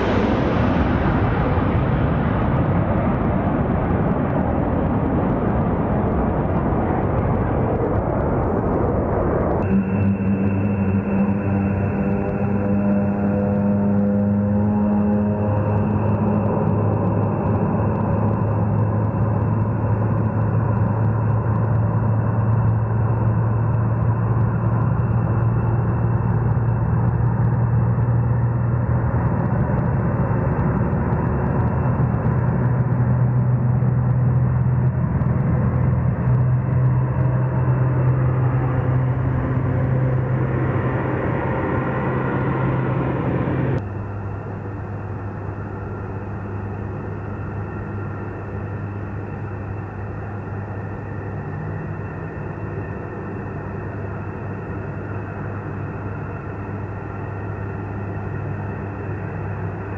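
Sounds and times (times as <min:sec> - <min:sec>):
distant engine rumble: 0:00.0 - 0:59.9
turboprop aircraft engine drone: 0:00.0 - 0:59.9.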